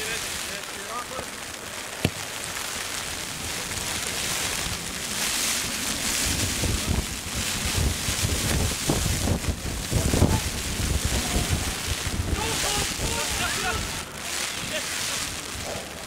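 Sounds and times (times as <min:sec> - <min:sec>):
wind buffeting microphone: 0:01.4 - 0:16.0.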